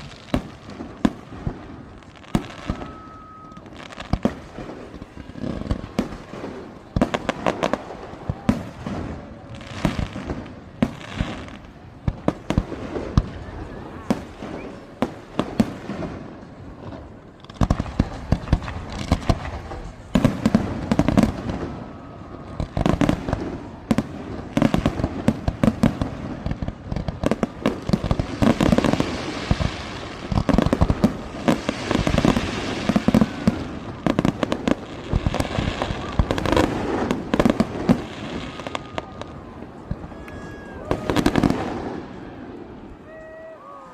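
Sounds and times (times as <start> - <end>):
fireworks booming: 0.0 - 43.6
fireworks crackling: 0.0 - 43.9.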